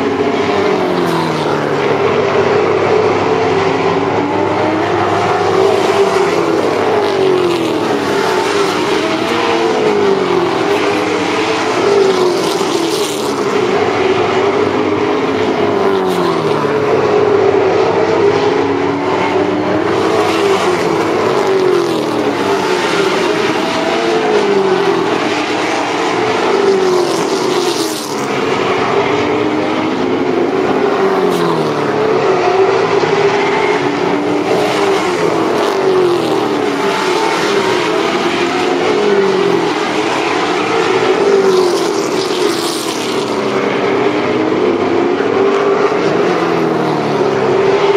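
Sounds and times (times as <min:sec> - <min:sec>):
race car engines: 0:00.0 - 0:47.9.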